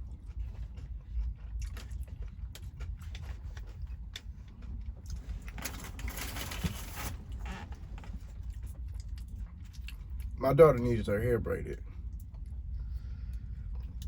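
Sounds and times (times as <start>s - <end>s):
truck cab low rumble: 0.0s - 14.0s.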